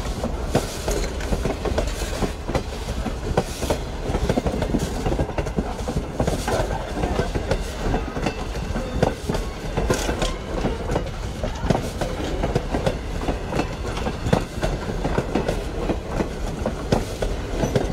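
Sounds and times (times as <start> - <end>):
train wheels rumbling on rail: 0.0 - 17.9
wheels clacking over rail joints: 0.0 - 17.9.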